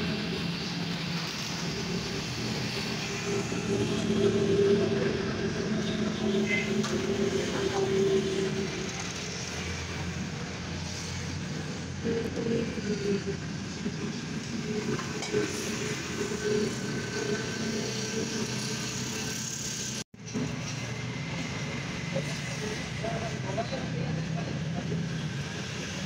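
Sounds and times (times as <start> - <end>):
vehicle noise with low hum: 0.0 - 26.0.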